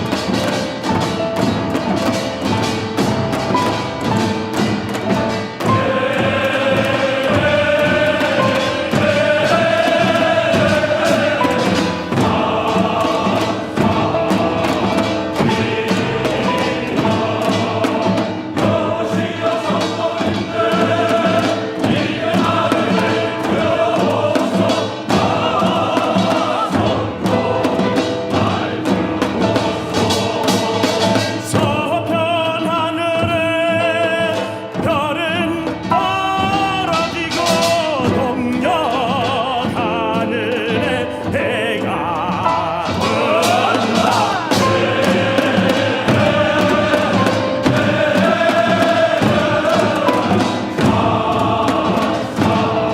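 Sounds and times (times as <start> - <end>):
church choir singing: 0.0 - 52.9
instrumental accompaniment: 0.0 - 52.9.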